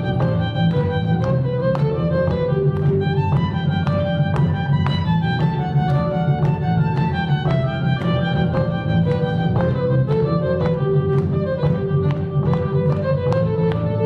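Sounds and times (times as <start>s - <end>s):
upbeat fiddle tune: 0.0s - 14.0s.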